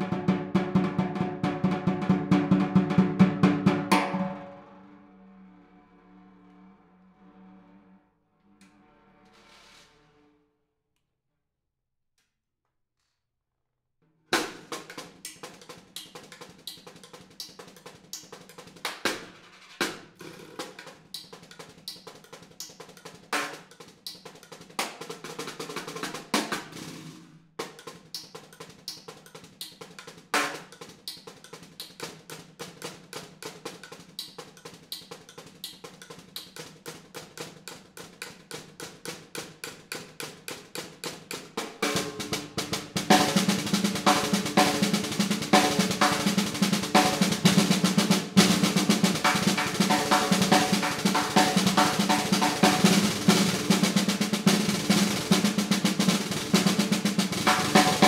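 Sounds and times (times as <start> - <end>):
snare drum strokes and rolls: 0.0 - 4.6, 14.4 - 58.0.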